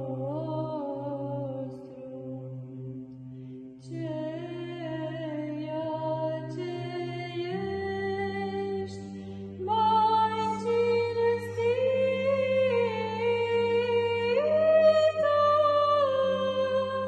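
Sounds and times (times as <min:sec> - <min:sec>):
woman singing chant: 0:00.0 - 0:02.8, 0:03.8 - 0:17.0.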